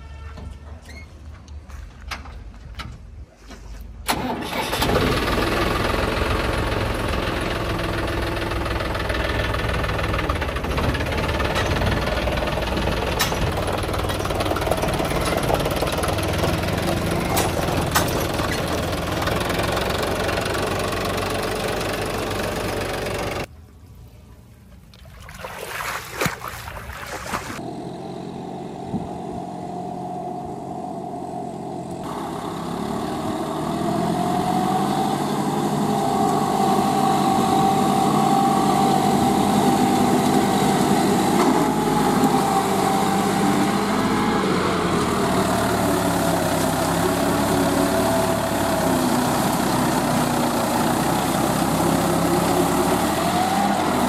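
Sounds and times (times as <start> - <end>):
tractor diesel engine running: 4.0 - 23.5, 27.0 - 54.0
tractor engine working in mud: 4.0 - 23.5, 26.2 - 54.0.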